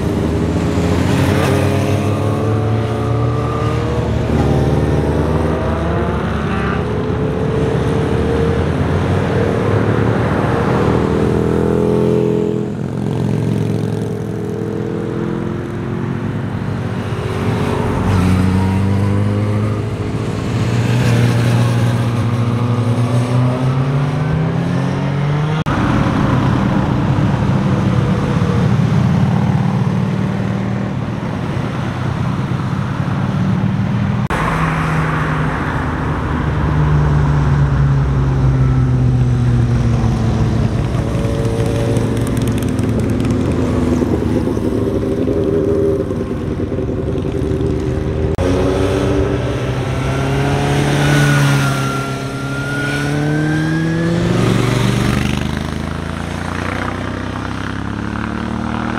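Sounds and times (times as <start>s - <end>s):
motorcycles passing: 0.0s - 58.9s.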